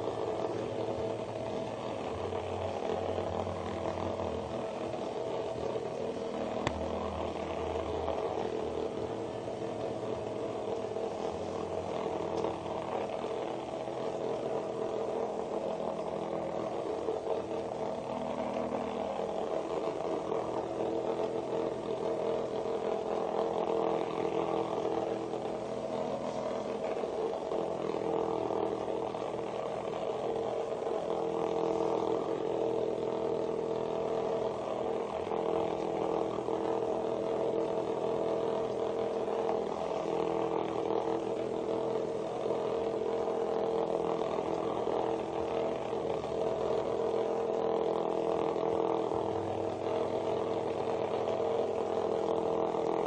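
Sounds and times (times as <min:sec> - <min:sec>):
vibrating toys buzzing: 0:00.0 - 0:53.0.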